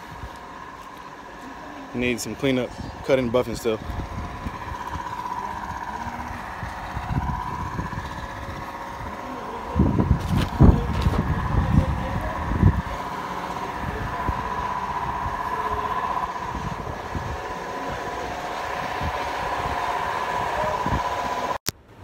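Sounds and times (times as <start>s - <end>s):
low bumps: 0.0s - 21.6s
machine droning: 0.0s - 21.7s.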